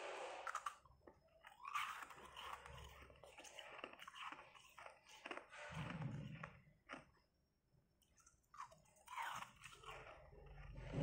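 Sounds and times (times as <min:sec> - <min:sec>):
ice being chewed: 0:00.5 - 0:11.0.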